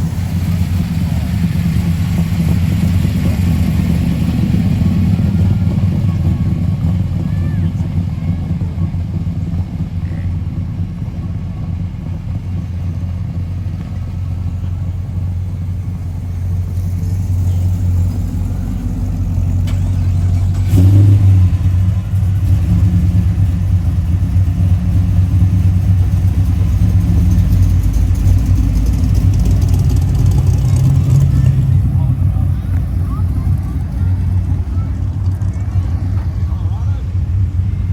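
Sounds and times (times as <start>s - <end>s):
car engine running: 0.0s - 37.9s.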